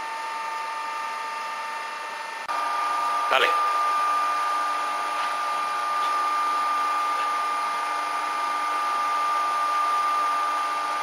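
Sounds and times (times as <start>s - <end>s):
machine noise with high whine: 0.0s - 11.0s.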